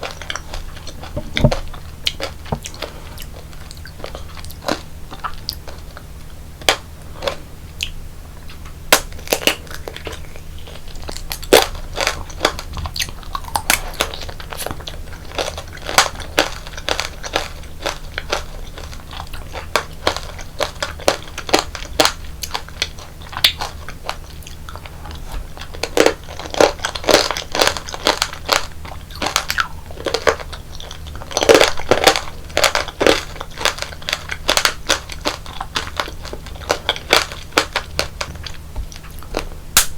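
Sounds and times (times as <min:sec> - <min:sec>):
candied fruit crunching: 0:00.0 - 0:39.9.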